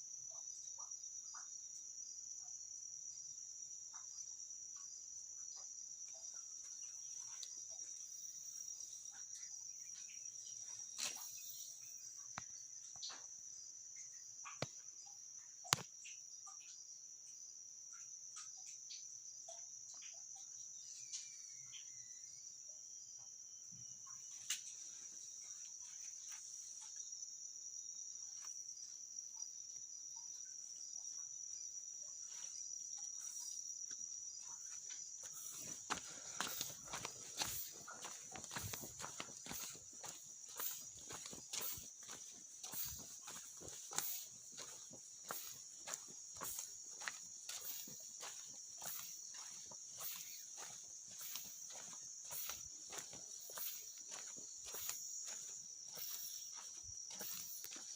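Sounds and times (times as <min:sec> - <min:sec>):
crickets trilling: 0:00.0 - 0:57.9.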